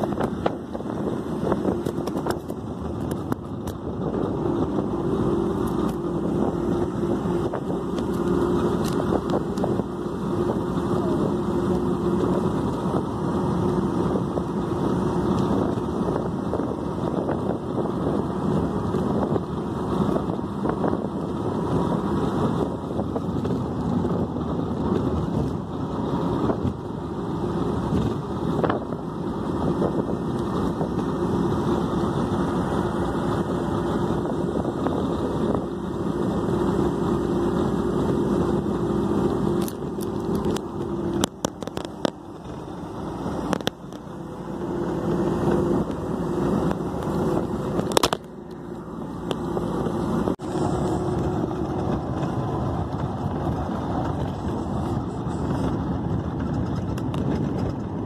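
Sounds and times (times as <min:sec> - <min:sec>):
bus engine drone: 0:00.0 - 0:58.0
road and tyre noise: 0:00.0 - 0:58.0.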